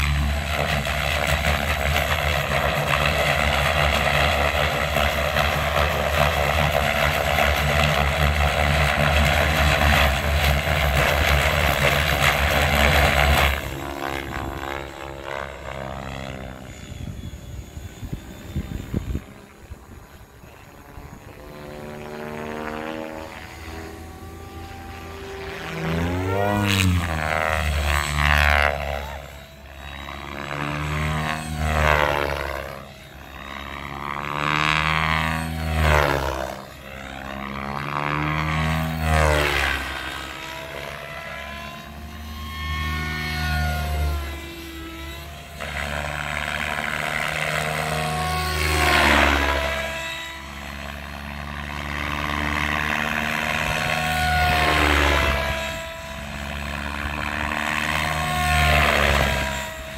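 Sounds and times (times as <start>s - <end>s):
rc helicopter rotor and motor: 0.0s - 59.9s.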